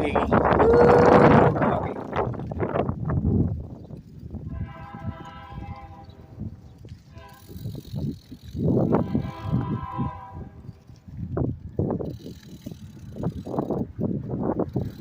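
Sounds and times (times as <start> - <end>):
low irregular rumble: 0.0 - 14.7
bicycle freewheel hub buzzing: 0.0 - 15.0.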